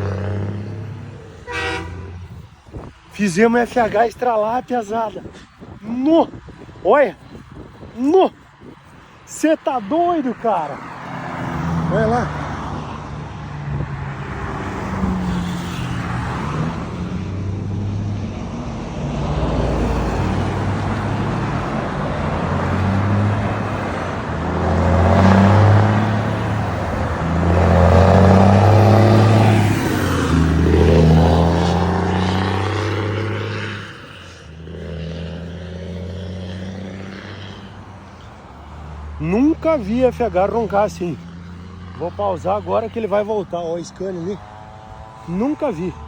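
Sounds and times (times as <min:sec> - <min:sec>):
diesel truck engine driving past: 0:00.0 - 0:05.3, 0:09.8 - 0:46.0.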